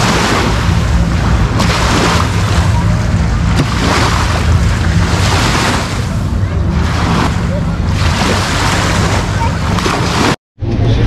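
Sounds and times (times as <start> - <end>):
boat motor humming: 0.0 - 11.0
surf: 0.0 - 11.0.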